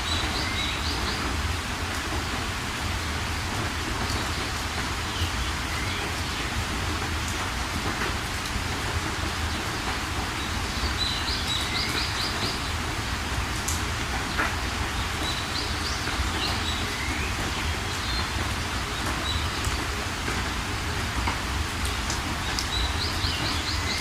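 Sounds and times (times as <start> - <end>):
birds calling: 0.0 - 2.4, 4.0 - 24.0
steady rain falling: 0.0 - 24.0.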